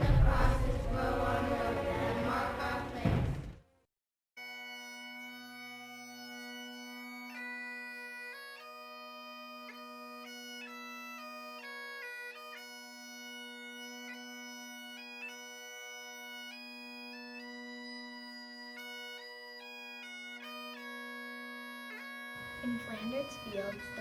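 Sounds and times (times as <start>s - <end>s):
bagpipes playing a melody: 4.4s - 24.0s.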